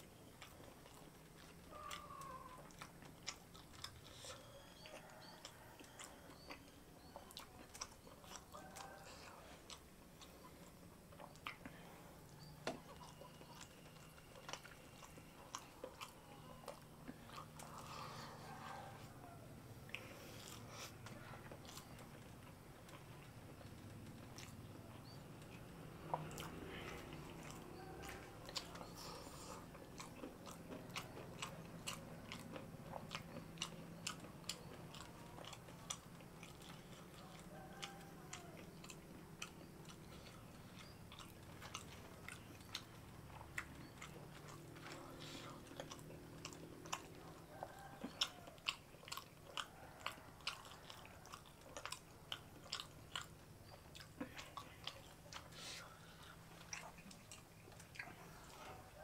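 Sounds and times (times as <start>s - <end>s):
person chewing with mouth clicks: 0.0s - 59.0s.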